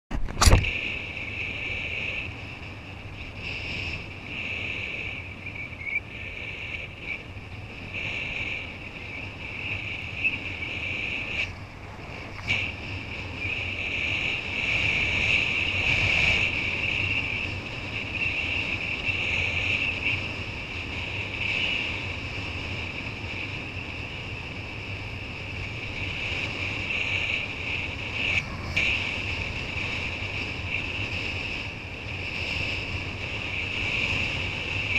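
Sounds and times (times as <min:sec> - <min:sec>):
wind on microphone: 0:00.1 - 0:34.9.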